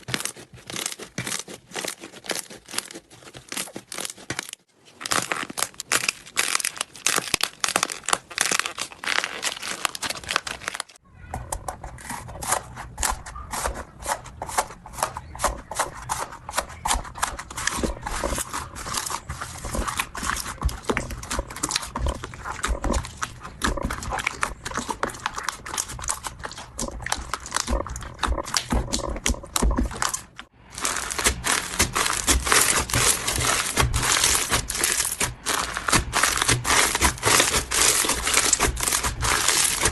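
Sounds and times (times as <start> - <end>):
slime crackling and popping: 0.0 - 11.0, 17.0 - 39.9.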